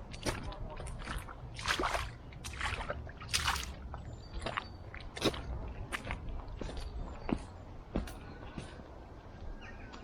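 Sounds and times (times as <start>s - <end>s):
footsteps squelching in wet mud: 0.0s - 8.8s.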